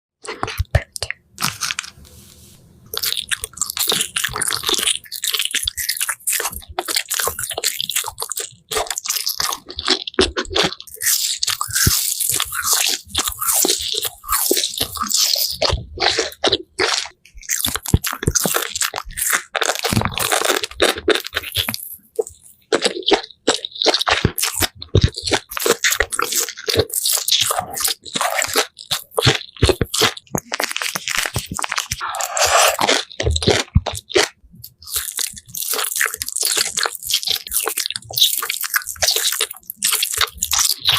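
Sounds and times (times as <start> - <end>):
crunching and chewing crisp food: 0.2 - 40.9.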